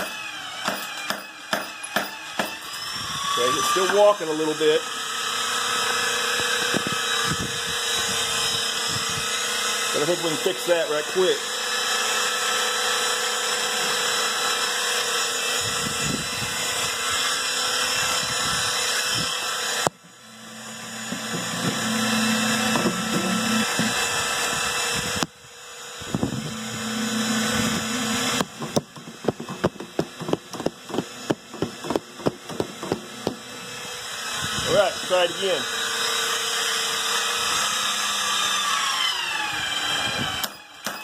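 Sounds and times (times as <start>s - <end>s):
electric motor humming: 0.0s - 40.5s.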